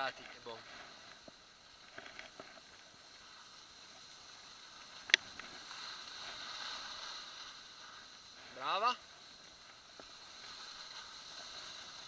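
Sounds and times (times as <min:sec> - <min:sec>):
skis scraping over snow: 0:00.0 - 0:12.0.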